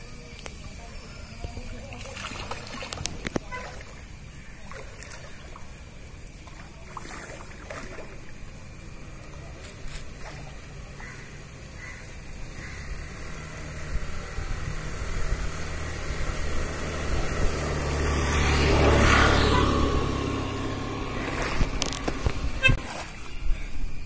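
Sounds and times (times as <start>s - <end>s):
engine passing by: 0.0s - 23.2s
water splashing: 0.3s - 11.6s, 12.2s - 23.6s.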